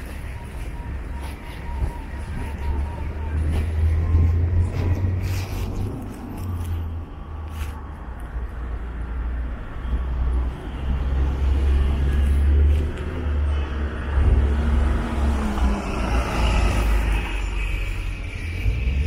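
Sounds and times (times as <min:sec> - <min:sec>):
steady low traffic rumble: 0:00.0 - 0:19.0
vehicles passing: 0:00.0 - 0:19.0.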